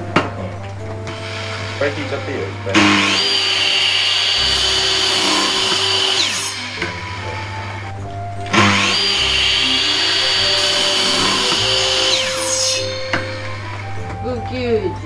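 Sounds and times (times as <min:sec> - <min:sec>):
miter saw motor whining: 0:01.1 - 0:14.2.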